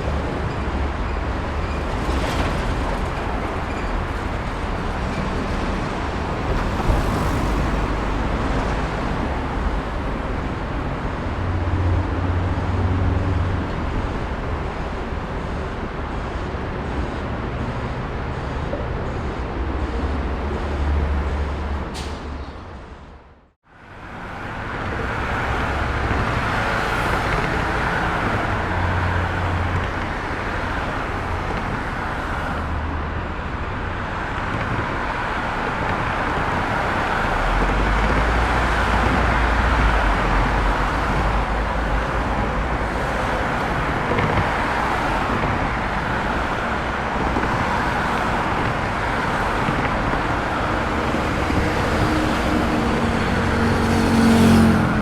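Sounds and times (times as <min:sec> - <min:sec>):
heavy vehicle engine rumble: 0:00.0 - 0:55.0
road traffic noise: 0:00.0 - 0:55.0.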